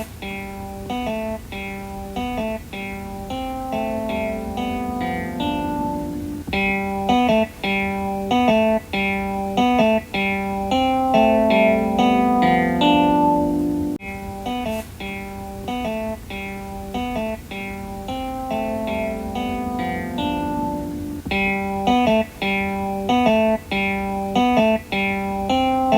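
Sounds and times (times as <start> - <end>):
plucked-string toy melody loop: 0.0 - 25.9.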